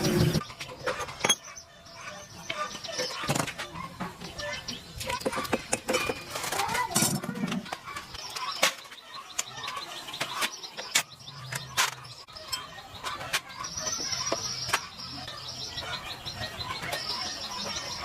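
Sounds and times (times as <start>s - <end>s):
birds chirping in a trill: 0.0s - 18.0s.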